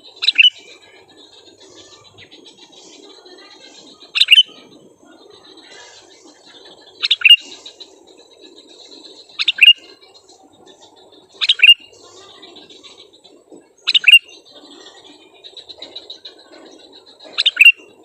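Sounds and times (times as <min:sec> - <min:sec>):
faint background chatter: 0:00.0 - 0:18.0.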